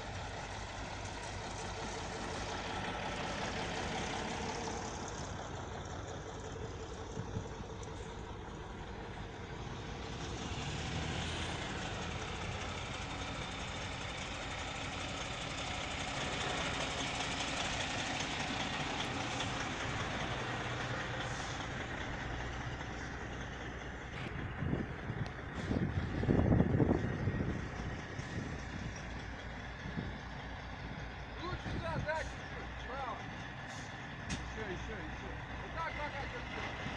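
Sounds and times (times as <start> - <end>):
heavy vehicle engine running: 0.0 - 36.9.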